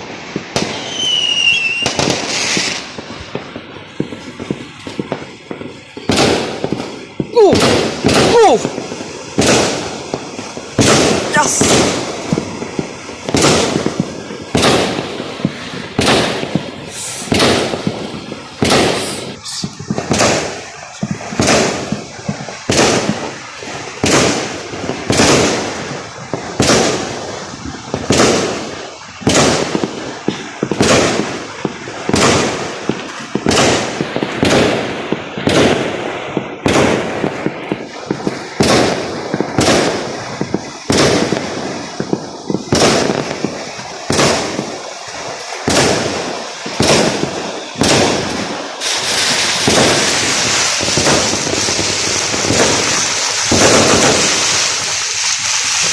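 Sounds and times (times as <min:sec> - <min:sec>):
fireworks loud bangs: 0:00.0 - 0:55.9.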